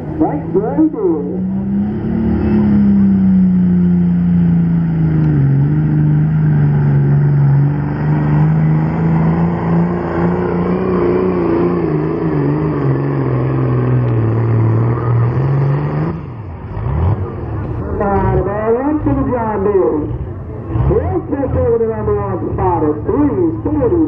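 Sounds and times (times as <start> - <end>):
tractor engine at full throttle: 0.0 - 24.0.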